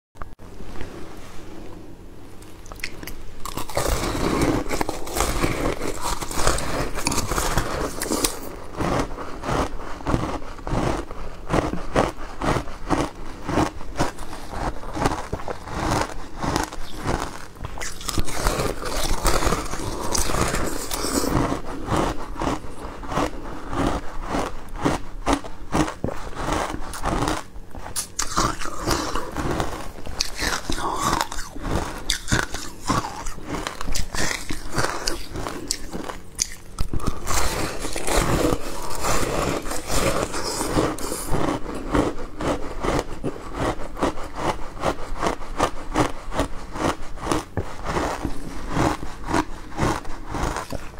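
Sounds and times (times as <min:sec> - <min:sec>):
person chewing crunchy shaved ice: 0:02.4 - 0:50.9.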